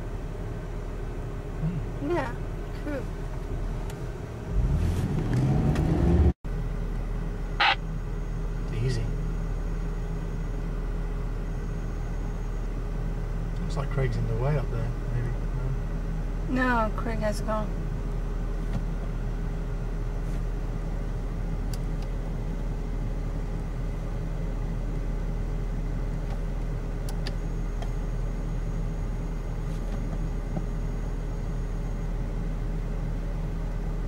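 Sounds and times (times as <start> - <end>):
engine rumble from inside cabin: 0.0 - 34.0.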